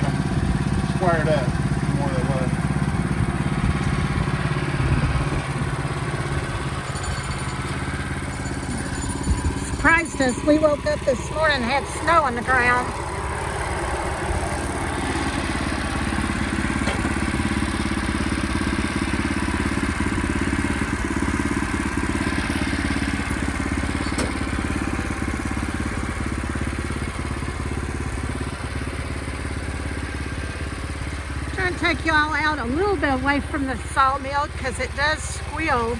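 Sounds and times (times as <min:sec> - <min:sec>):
sawmill engine and blade cutting: 0:00.0 - 0:35.9.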